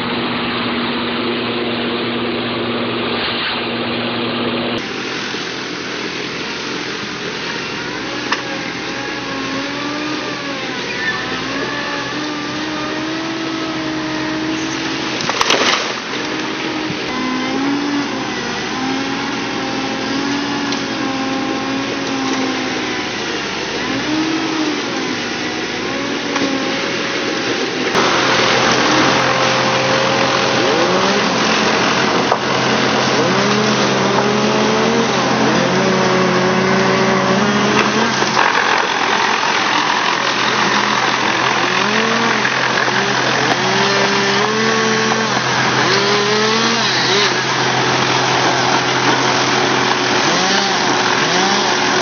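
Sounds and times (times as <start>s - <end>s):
harsh grinding noise: 0.0s - 52.0s
wood chipper engine running: 0.0s - 52.0s.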